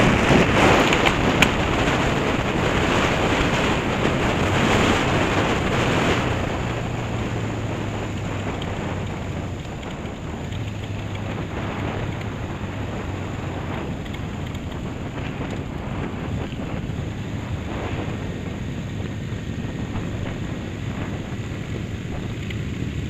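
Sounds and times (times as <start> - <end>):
motorcycle engine hum: 0.0 - 23.0
wind buffeting microphone: 0.0 - 23.0.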